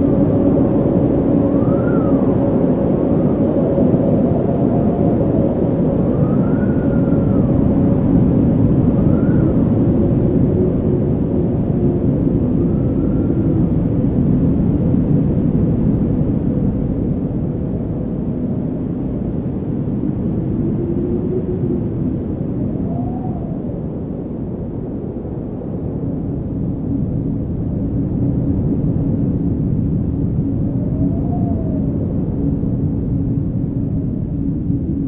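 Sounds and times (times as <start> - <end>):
wind rushing and howling: 0.0 - 35.0.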